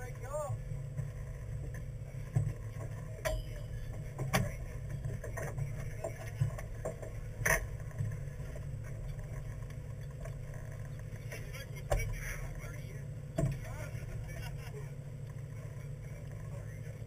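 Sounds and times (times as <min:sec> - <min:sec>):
boat engine low rumble: 0:00.0 - 0:17.0.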